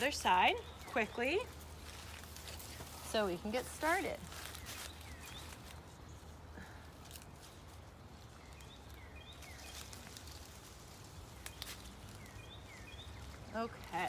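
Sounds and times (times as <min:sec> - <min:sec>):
bird chirping softly: 0:00.0 - 0:06.8, 0:07.4 - 0:14.0.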